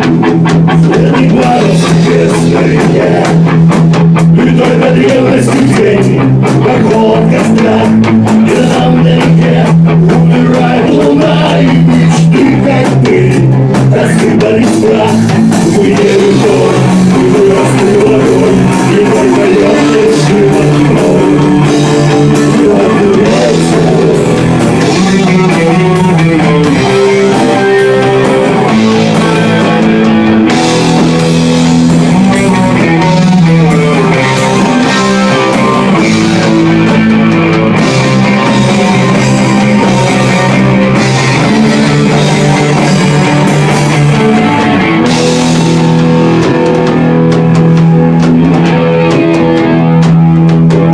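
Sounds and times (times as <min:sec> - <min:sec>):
drum kit: 0:00.0 - 0:50.9
electric guitars playing chords: 0:00.0 - 0:50.9.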